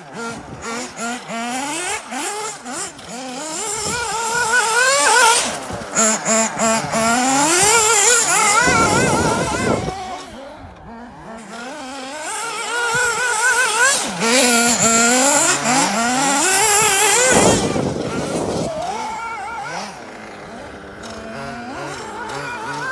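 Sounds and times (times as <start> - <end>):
small nitro engine revving: 0.0 - 22.9.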